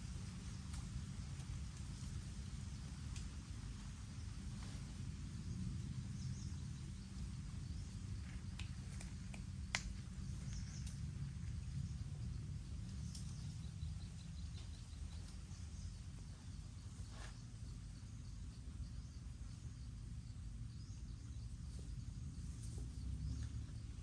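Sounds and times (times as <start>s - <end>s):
insect chirps: 0.0s - 24.0s
steady low rumble: 0.0s - 24.0s.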